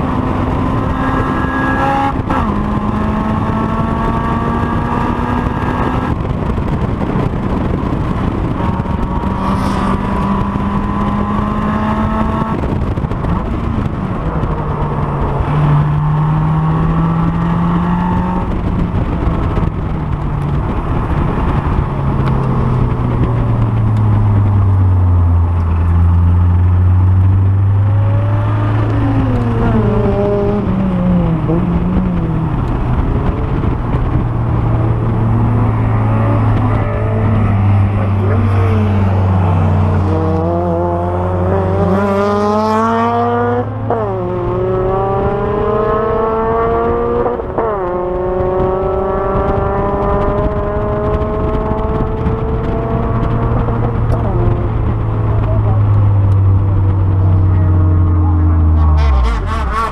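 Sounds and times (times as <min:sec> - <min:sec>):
car engine revving high: 0:00.0 - 0:59.9.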